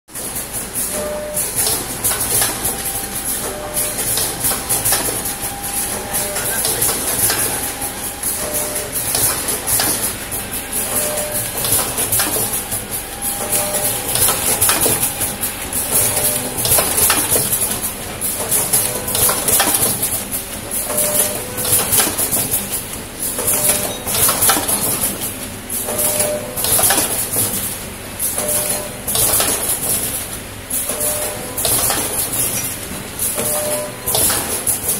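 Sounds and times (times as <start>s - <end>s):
packing machines clattering: 0.2s - 34.9s.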